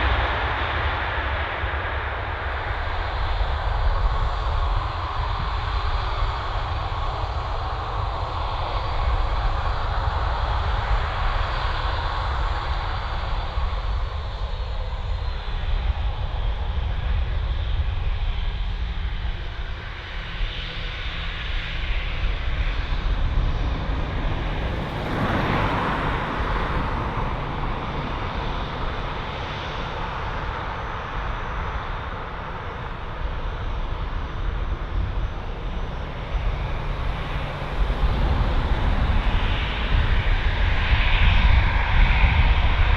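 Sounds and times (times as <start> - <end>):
aircraft engines rumbling: 0.0 - 42.9.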